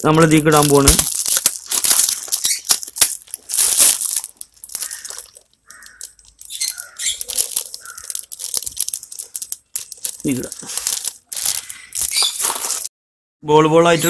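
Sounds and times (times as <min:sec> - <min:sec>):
plastic bag crinkling: 0:00.0 - 0:12.9.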